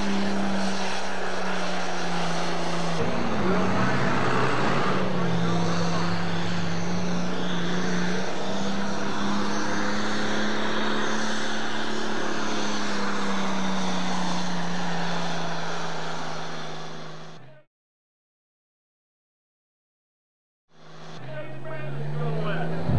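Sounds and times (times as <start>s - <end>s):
tractor diesel engine at full throttle: 0.0s - 17.6s, 20.8s - 22.9s.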